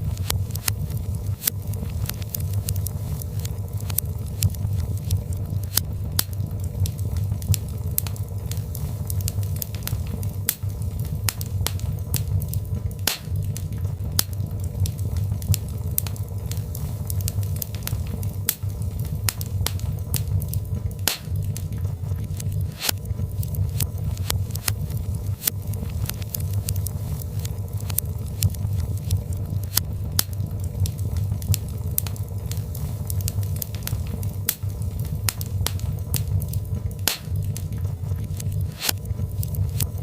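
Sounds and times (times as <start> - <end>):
fire crackling in a fireplace: 0.0 - 40.0.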